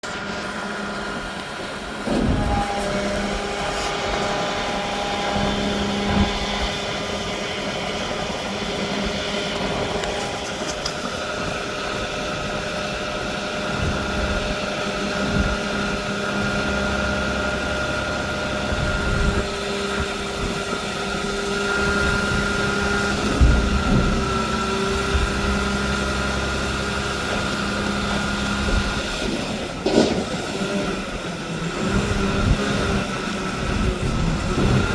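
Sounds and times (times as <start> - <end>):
steady whine: 0.0 - 34.9
garbage truck engine idling: 0.1 - 34.9.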